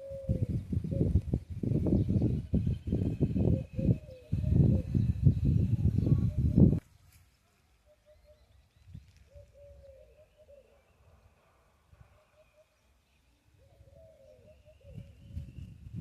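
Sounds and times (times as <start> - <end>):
faint bird calls: 2.1 - 15.8.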